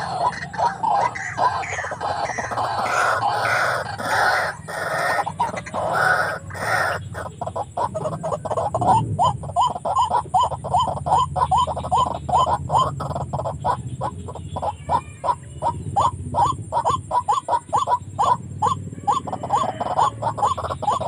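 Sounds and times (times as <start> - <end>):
bird calling repeated notes: 0.0 - 21.0
low continuous drone: 0.0 - 21.0.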